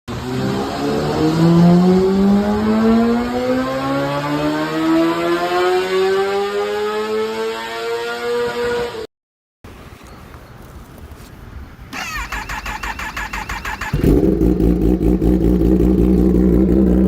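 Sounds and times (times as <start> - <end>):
motorcycle engine accelerating: 0.1 - 9.0, 12.0 - 17.0.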